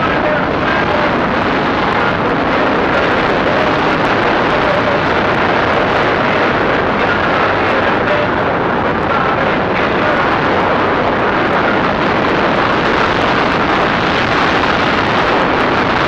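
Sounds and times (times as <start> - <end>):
dense rushing noise: 0.0 - 16.0.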